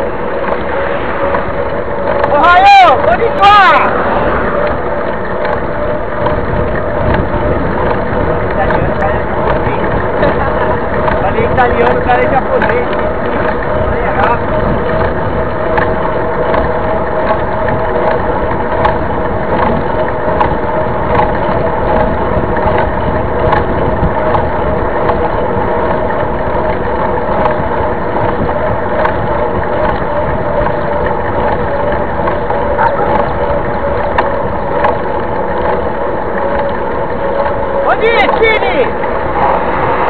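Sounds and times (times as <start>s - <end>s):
tyre humming on asphalt: 0.0s - 40.0s
wind rushing over microphone: 0.0s - 40.0s.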